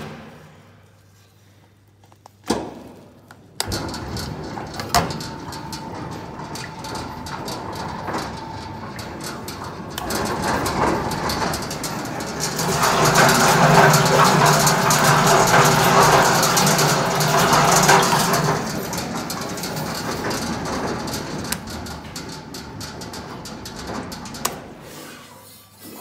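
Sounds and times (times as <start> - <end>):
machine electric drive humming: 3.6 - 24.9.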